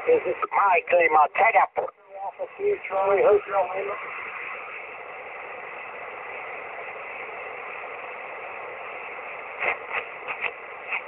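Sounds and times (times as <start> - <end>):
radio crackle: 0.0 - 11.0
radio static hiss: 0.0 - 11.0.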